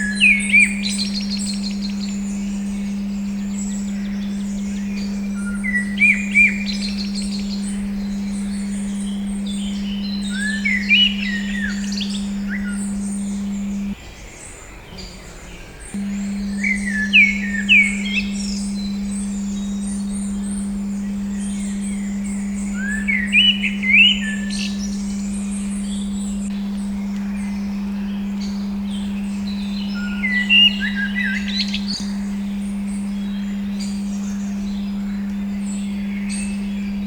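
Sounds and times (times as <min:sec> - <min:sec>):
pure tone hum: 0:00.0 - 0:14.1, 0:14.8 - 0:37.0
birds chirping: 0:00.0 - 0:37.0.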